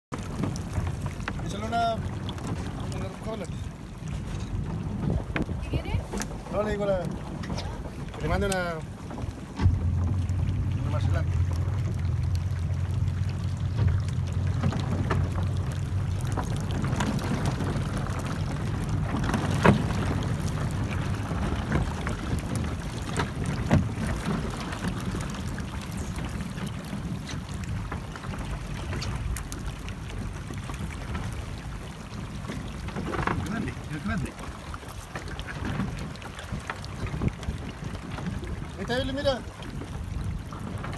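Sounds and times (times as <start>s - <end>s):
sloshing water: 0.0s - 40.9s
boat engine running low: 0.1s - 40.9s.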